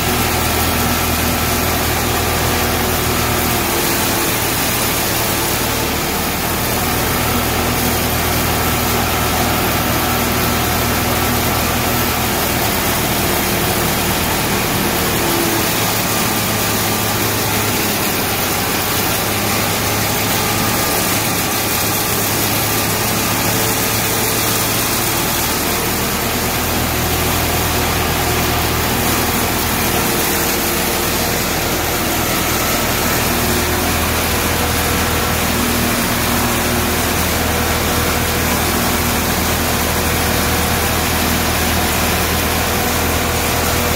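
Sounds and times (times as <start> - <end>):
engine running: 0.0 - 43.9
hammer mill grinding hay: 0.0 - 43.9.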